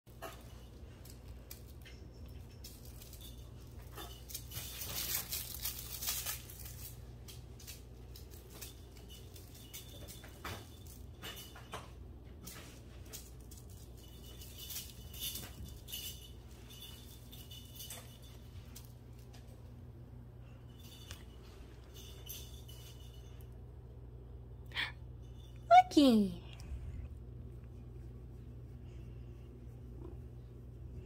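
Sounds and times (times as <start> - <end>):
low hum: 0.2 - 31.0.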